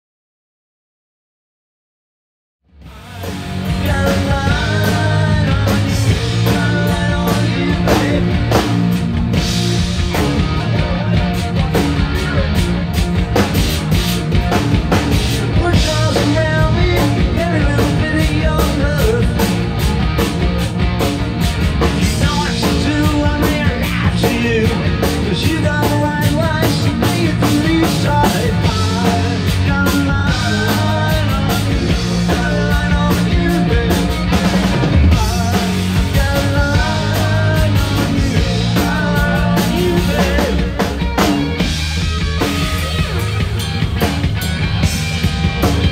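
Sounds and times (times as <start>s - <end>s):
electric guitars: 2.7s - 45.9s
live rock band playing: 2.7s - 45.9s
drum kit beat: 2.8s - 45.9s.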